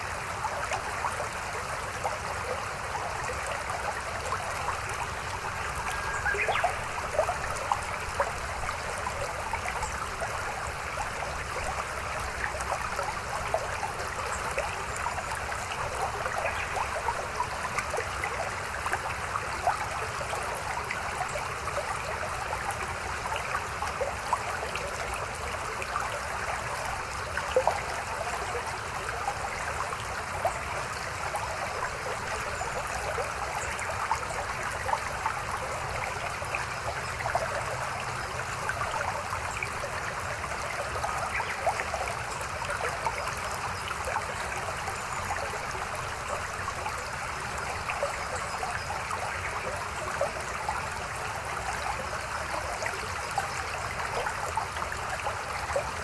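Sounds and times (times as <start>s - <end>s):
stream babbling over rocks: 0.0s - 56.0s.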